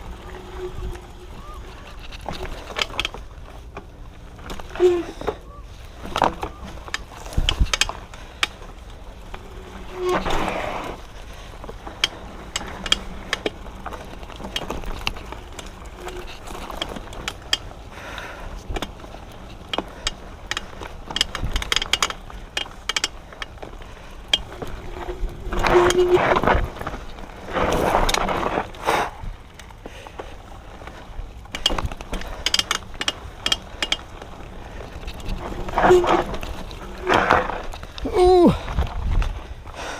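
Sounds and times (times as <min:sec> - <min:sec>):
bike clicks and rattles: 0:00.0 - 0:39.9
tyre and wind noise: 0:00.0 - 0:39.9.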